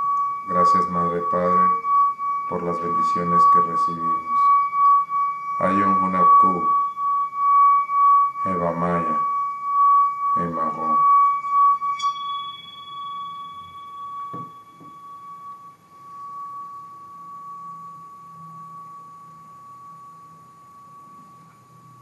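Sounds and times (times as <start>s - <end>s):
singing bowl ringing: 0.0s - 22.0s.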